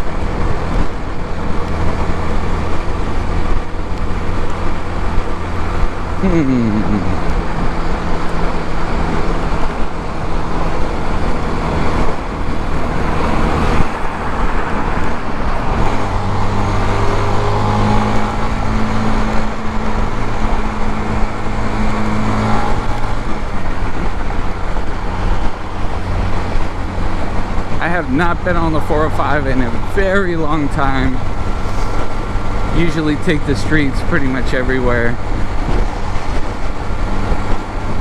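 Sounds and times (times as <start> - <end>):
wind noise: 0.0 - 29.9, 30.7 - 38.0
road noise: 0.0 - 38.0.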